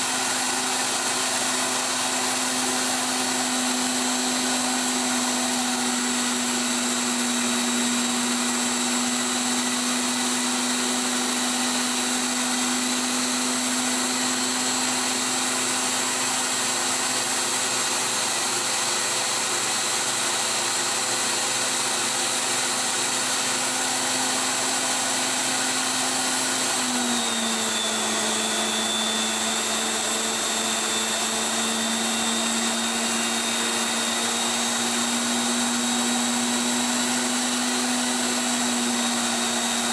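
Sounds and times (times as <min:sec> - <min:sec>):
grinder motor whine: 0:00.0 - 0:39.9.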